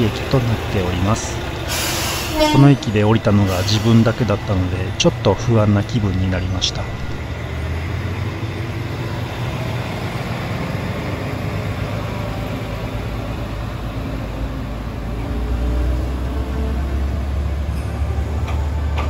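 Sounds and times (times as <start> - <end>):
diesel railcar engine running: 0.0 - 19.0.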